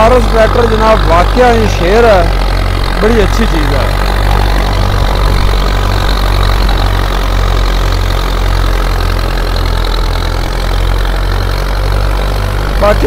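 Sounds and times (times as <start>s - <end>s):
threshing machine running: 0.0s - 13.0s
tractor diesel engine under load: 0.0s - 13.0s.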